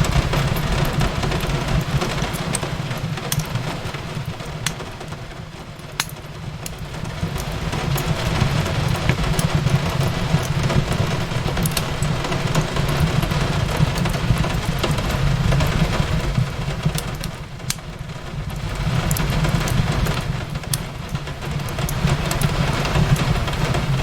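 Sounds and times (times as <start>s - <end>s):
fireplace fire crackling: 0.0s - 24.0s
rain hissing: 0.0s - 24.0s.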